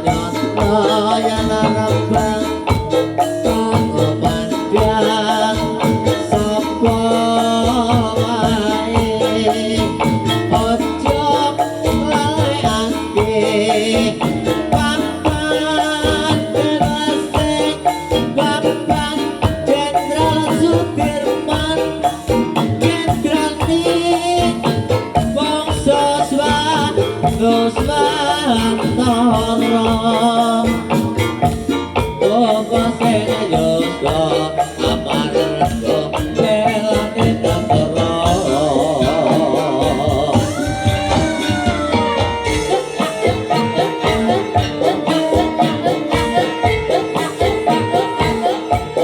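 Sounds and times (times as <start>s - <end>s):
percussion ensemble beat: 0.0s - 49.0s
person singing: 0.0s - 49.0s.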